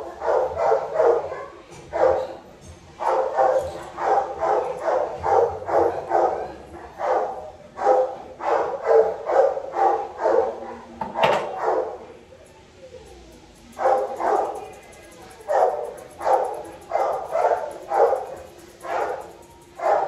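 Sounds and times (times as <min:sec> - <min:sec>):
dog barking: 0:00.0 - 0:02.4, 0:03.0 - 0:12.0, 0:13.8 - 0:14.6, 0:15.5 - 0:20.0.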